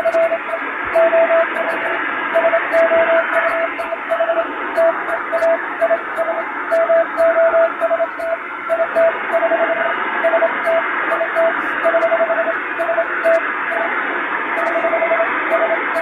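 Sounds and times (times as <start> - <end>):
morse code tone: 0.0 - 16.0
shortwave static: 0.0 - 16.0.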